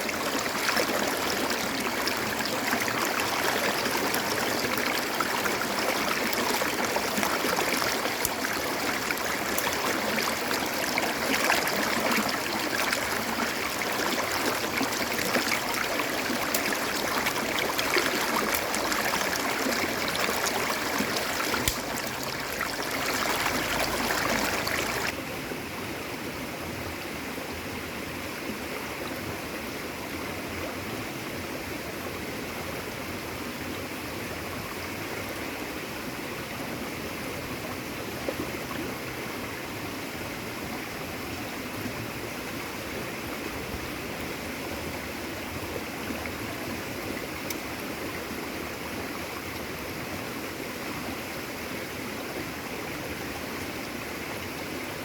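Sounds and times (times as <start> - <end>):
stream water flowing: 0.0 - 26.4, 27.1 - 55.0.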